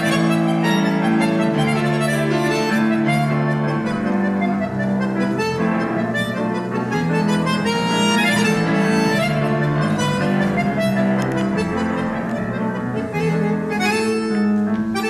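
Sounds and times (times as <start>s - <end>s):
accordion: 0.0s - 15.0s
grand piano: 0.0s - 15.0s.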